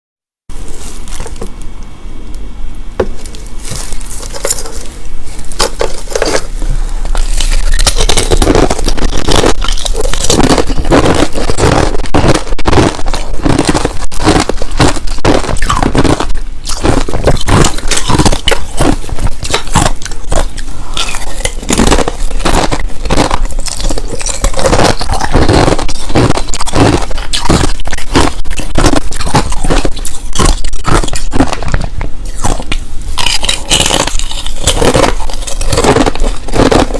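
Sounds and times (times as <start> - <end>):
chewing crushed ice: 3.2 - 36.9.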